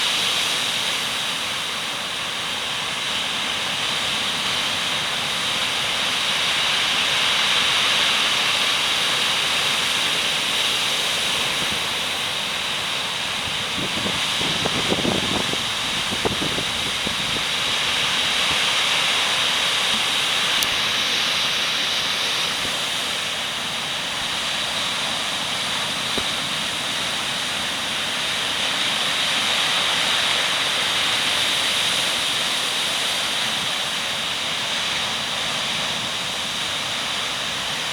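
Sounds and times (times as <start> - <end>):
gale-force wind: 0.0 - 37.9
heavy rain: 0.0 - 37.9
breaking surf: 4.0 - 37.7.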